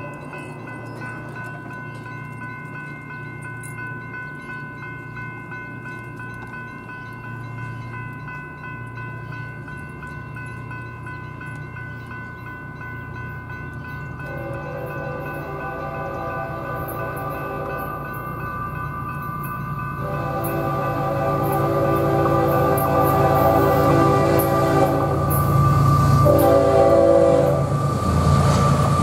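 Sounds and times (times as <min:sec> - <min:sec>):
diesel locomotive rumbling: 0:00.0 - 0:29.0
lower ringing tones: 0:00.0 - 0:29.0
railroad warning bell ringing: 0:00.0 - 0:29.0.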